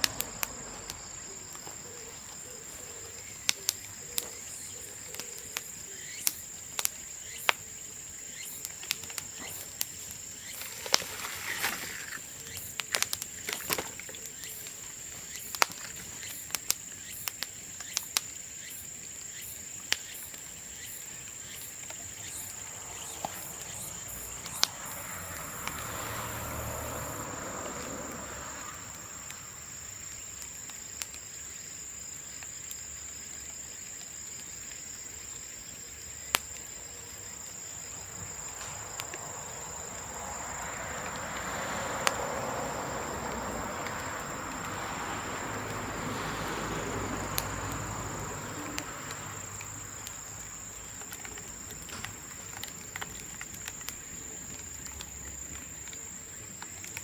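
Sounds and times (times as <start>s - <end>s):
bonfire popping: 0.0s - 57.0s
insects chirring: 0.0s - 57.0s.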